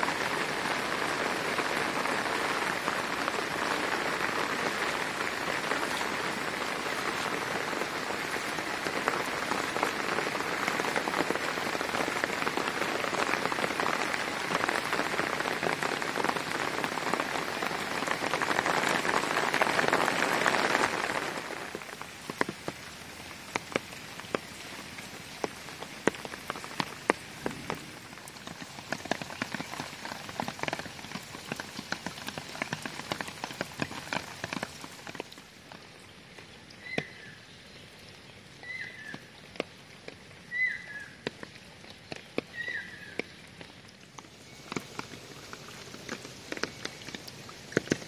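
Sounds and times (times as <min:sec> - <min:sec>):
heavy rain hissing: 0:00.0 - 0:37.5, 0:44.0 - 0:48.0
flowing water: 0:00.0 - 0:48.0
rain falling on muddy water: 0:00.0 - 0:48.0.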